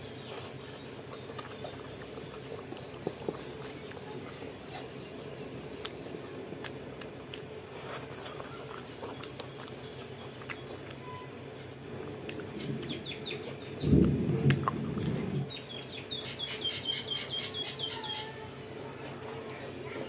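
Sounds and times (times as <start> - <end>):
bird chirping: 0.0 - 14.1, 15.2 - 20.0.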